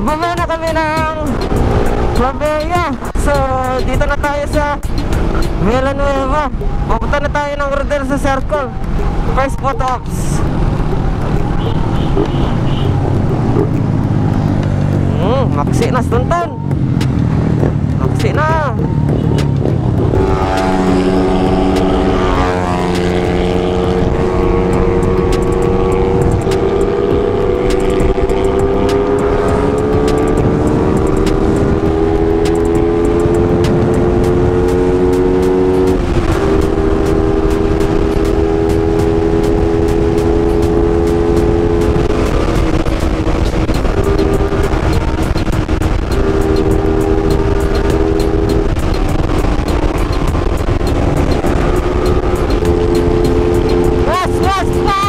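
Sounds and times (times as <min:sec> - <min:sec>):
motorcycle engine running: 0:00.0 - 0:55.0
steady rushing noise: 0:00.0 - 0:55.0.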